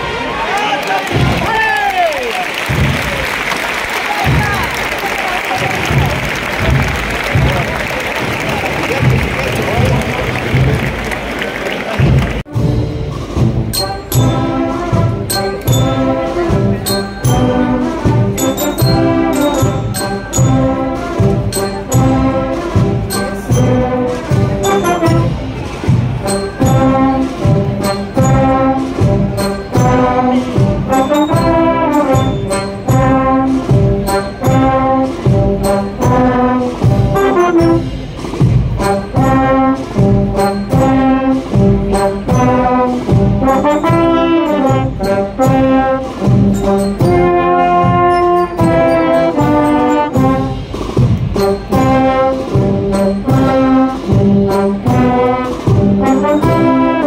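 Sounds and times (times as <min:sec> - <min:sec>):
brass band playing march: 0:00.8 - 0:57.0
drums keeping steady beat: 0:02.5 - 0:57.0.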